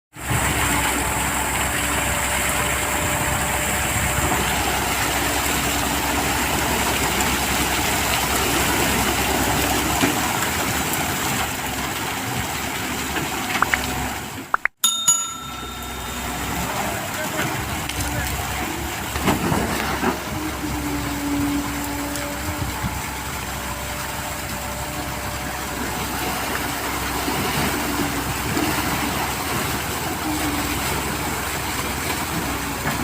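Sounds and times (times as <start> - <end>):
excavator diesel engine running: 0.2 - 33.0.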